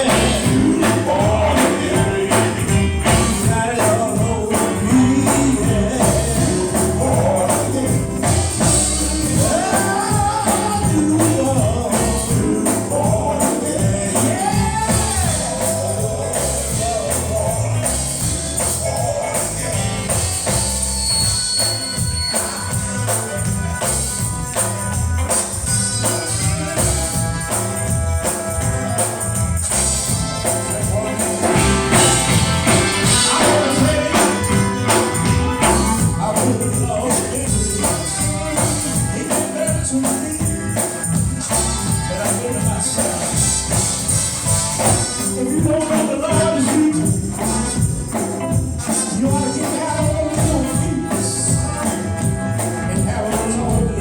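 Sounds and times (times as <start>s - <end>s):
gospel singing over a band: 0.0s - 54.0s
tambourine shaken and struck: 0.0s - 54.0s.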